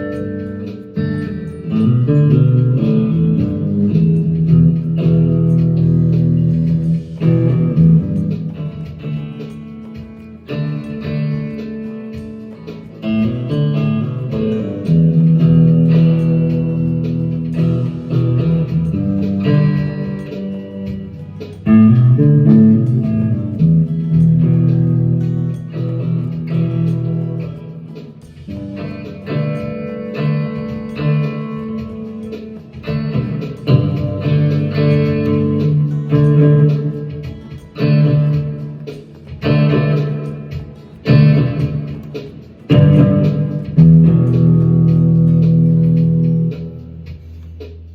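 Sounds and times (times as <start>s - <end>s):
bluesy electric guitar: 0.0s - 47.9s.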